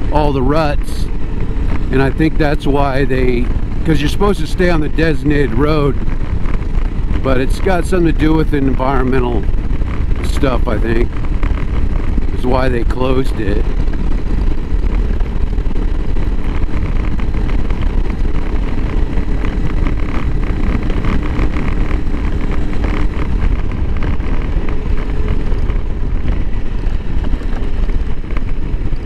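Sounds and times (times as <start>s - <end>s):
motorcycle engine running: 0.0s - 29.0s
wind noise on microphone: 0.0s - 29.0s.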